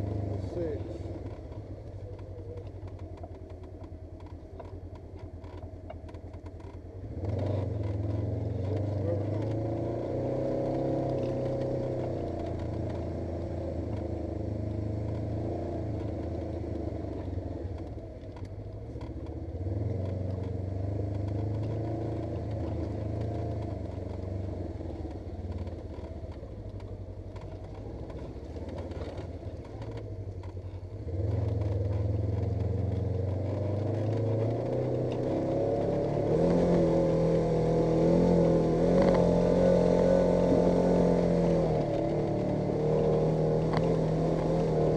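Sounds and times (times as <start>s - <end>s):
vehicle engine revving: 0.0s - 44.9s.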